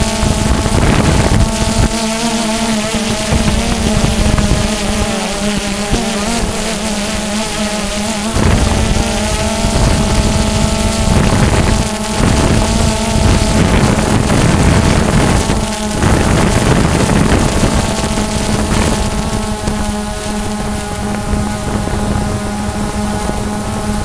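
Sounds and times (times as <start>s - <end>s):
quadcopter propellers buzzing: 0.0s - 24.0s
wind rumbling on microphone: 0.0s - 24.0s.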